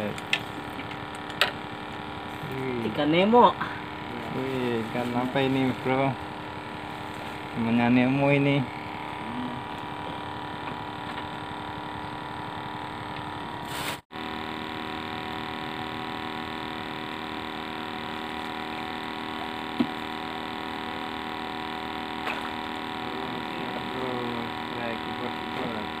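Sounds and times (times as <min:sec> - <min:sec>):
steady hum of held tones: 0:00.0 - 0:13.6, 0:14.2 - 0:26.0.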